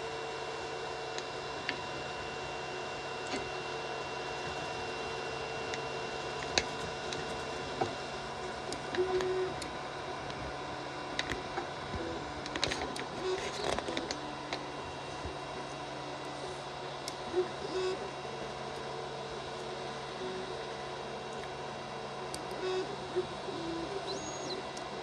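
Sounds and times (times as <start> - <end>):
cooling fans rushing: 0.0 - 25.0
steady printer hum: 0.0 - 25.0
stepper motors whining: 3.2 - 25.0.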